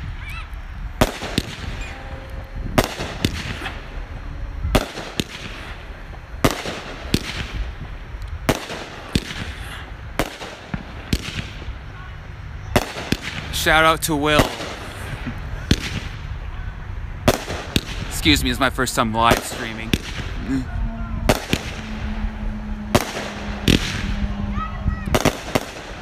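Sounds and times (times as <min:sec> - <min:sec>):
fireworks bangs: 0:00.0 - 0:12.0, 0:12.6 - 0:16.5, 0:17.2 - 0:26.0.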